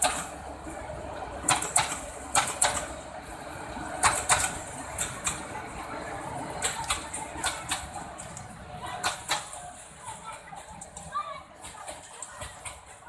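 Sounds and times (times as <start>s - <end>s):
train wheels clattering over joints: 0.0s - 0.4s, 1.4s - 3.1s, 3.8s - 13.0s
low train rumble: 0.0s - 13.0s.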